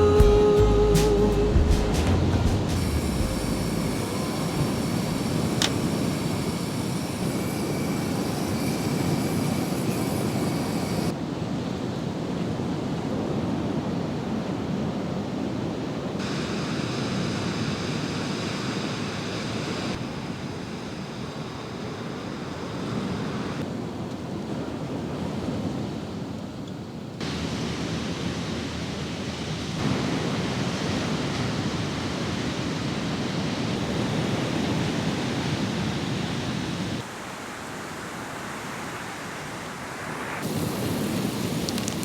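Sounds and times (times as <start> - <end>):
ocean surf breaking: 0.0 - 11.8, 12.5 - 42.0.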